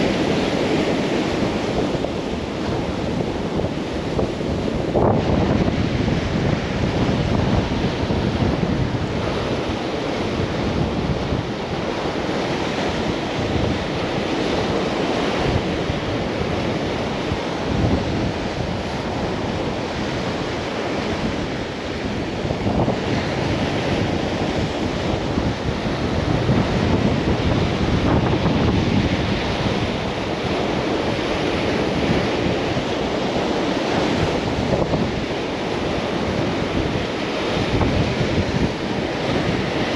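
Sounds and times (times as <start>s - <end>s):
surf on rocky shore: 0.0s - 39.9s
wind buffeting microphone: 0.0s - 39.9s.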